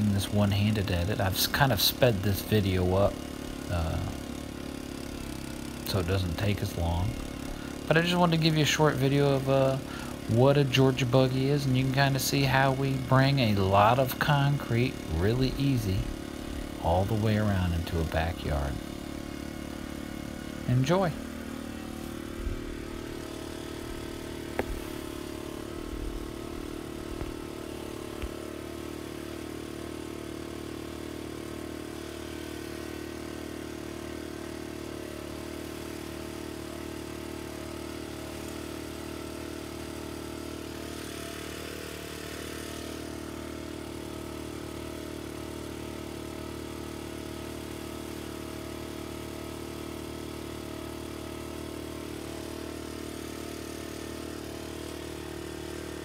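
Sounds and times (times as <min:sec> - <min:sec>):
concrete buggy engine running: 0:00.0 - 0:56.0.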